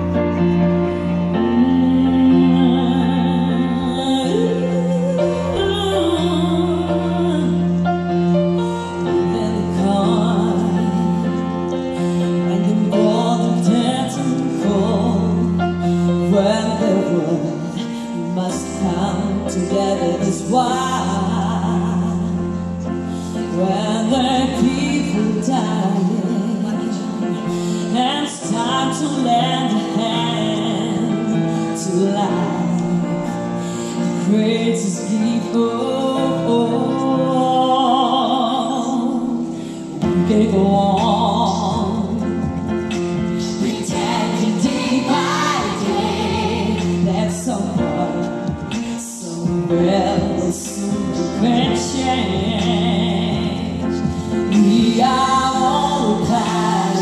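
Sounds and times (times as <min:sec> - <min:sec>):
person singing: 0:00.0 - 0:57.0.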